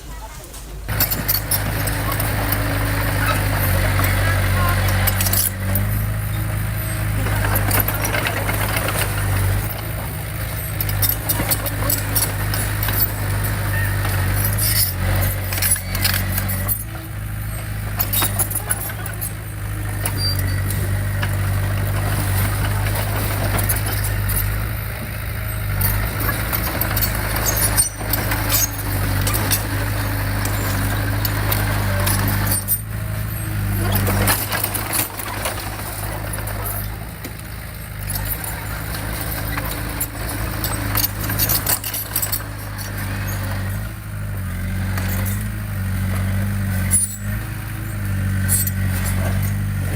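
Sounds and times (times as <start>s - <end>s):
diesel engine running: 0.6s - 49.9s.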